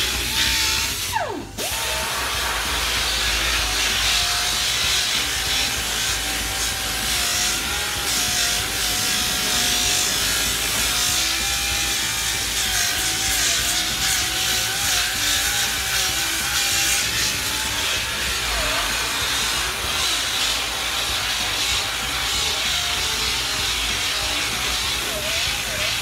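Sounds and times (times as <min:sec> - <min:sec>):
angle grinder grinding: 0:00.0 - 0:26.0.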